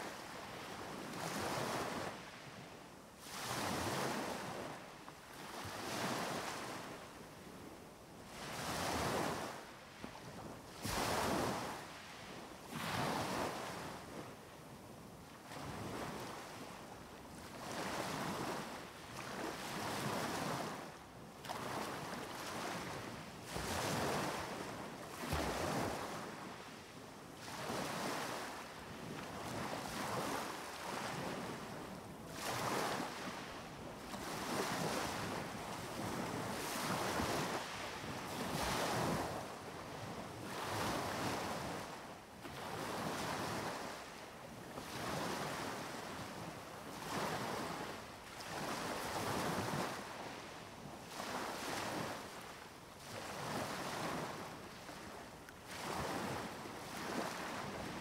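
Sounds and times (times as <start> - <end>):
sea waves breaking on beach: 3.2 - 7.0, 8.3 - 10.1, 10.7 - 14.1, 15.4 - 58.0.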